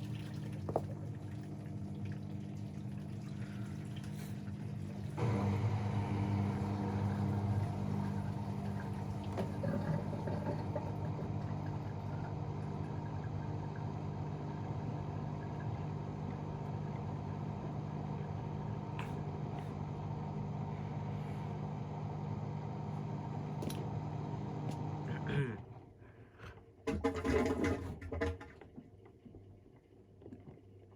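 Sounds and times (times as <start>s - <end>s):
washing machine spinning: 0.0s - 25.2s.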